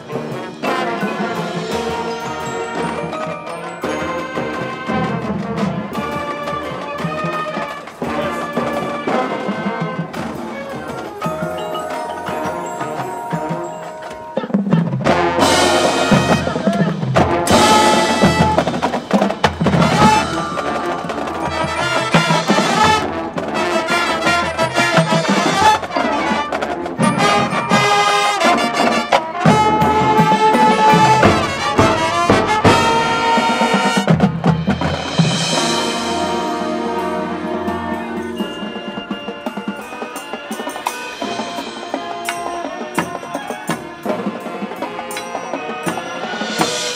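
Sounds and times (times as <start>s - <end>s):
brass: 0.0s - 46.9s
marching drums: 0.0s - 46.9s
pit percussion: 0.0s - 46.9s.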